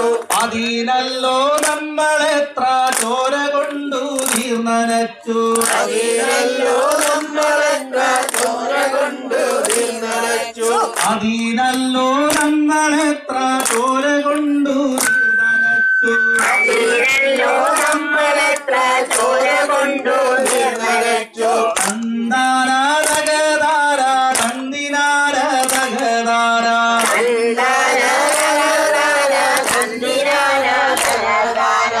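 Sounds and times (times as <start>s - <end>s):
hand clapping: 0.0s - 4.7s, 5.4s - 31.7s
man singing into a microphone: 0.0s - 8.0s, 10.4s - 31.0s
crowd singing: 0.0s - 32.0s.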